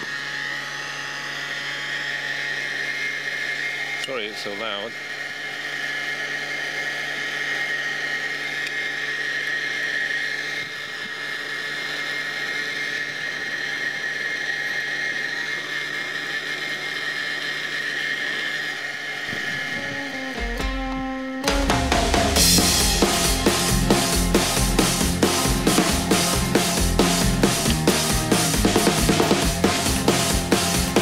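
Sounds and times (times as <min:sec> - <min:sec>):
blower fan whining: 0:00.0 - 0:31.0.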